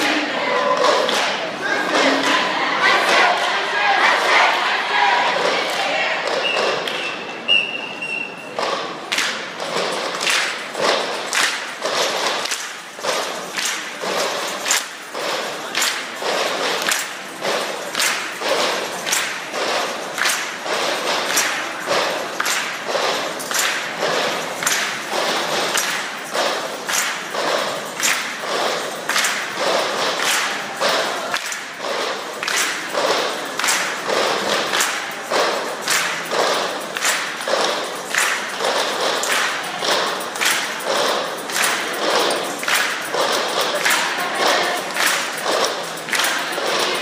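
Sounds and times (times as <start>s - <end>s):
group body percussion thumps: 0.0s - 47.0s.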